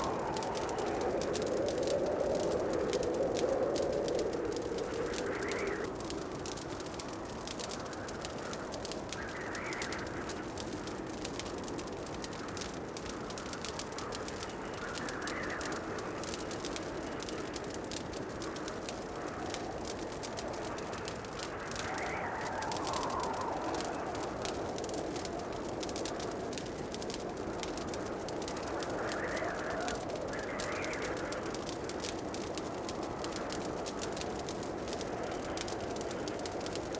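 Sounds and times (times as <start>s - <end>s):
fire rushing: 0.0s - 36.9s.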